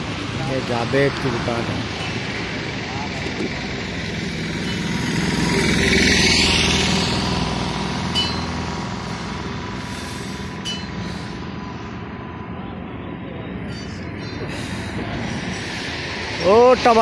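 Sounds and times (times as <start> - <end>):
vehicle passing close by: 0.0 - 13.6
low engine and traffic hum: 0.0 - 17.0.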